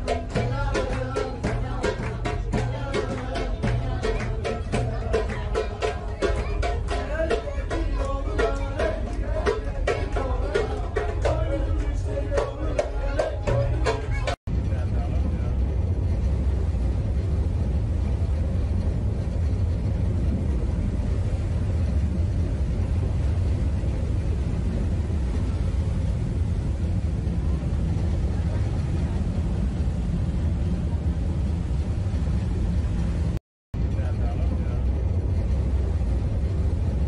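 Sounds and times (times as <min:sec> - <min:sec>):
ship engine drone: 0:00.0 - 0:37.0
wind on microphone: 0:00.0 - 0:37.0.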